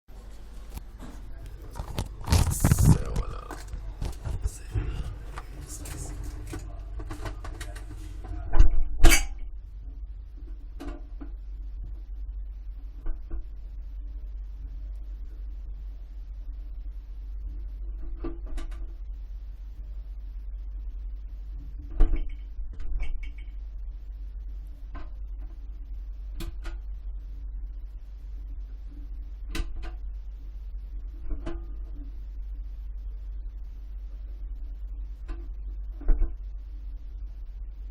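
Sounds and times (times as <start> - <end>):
steady low hum: 0.1 - 37.9.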